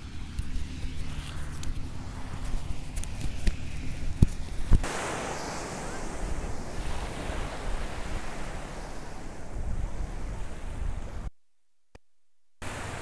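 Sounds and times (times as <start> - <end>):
small waves breaking on beach: 0.0 - 11.3, 12.6 - 13.0
wind buffeting microphone: 0.0 - 11.3.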